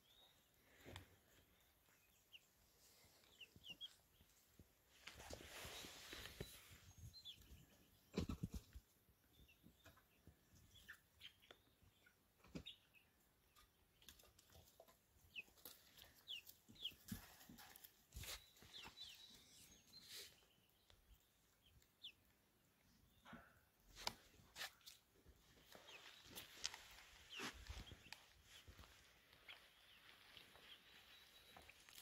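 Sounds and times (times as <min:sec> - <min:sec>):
chicks peeping and clucking: 0:00.0 - 0:32.0.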